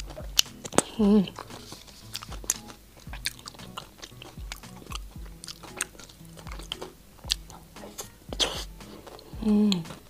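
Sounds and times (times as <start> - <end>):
sharp mouth clicks: 0.0 - 10.0
wet chewing and lip-smacking: 0.0 - 10.0.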